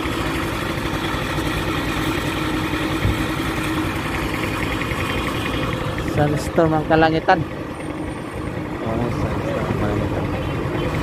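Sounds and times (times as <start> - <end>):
vehicle engines running: 0.0 - 11.0.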